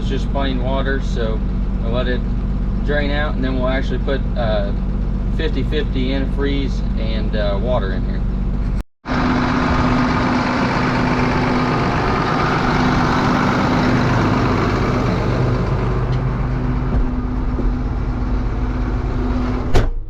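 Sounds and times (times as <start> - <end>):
tractor diesel engine running: 0.0 - 19.8.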